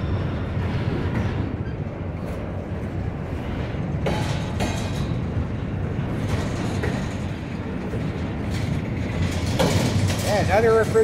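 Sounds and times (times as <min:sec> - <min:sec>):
steel wheels running on rails: 0:00.0 - 0:11.0.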